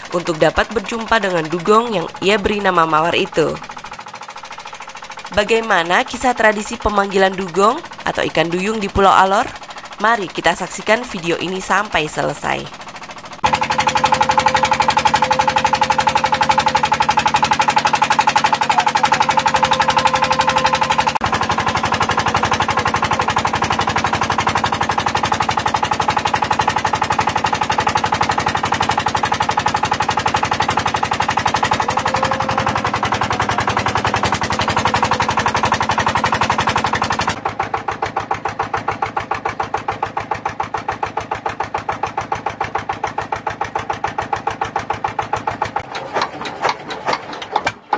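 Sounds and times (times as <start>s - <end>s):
boat engine puttering: 0.0s - 47.9s.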